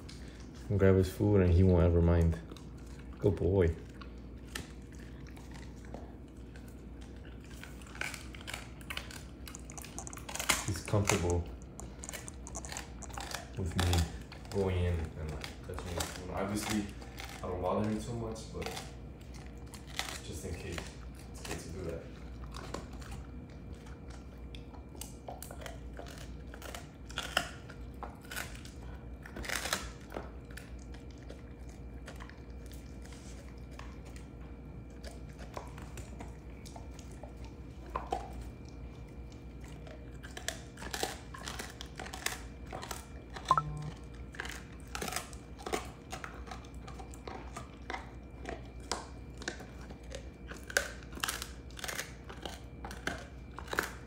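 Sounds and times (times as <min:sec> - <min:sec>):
dog chewing bone: 0:00.0 - 0:54.0
bone cracking and crunching: 0:02.2 - 0:54.0.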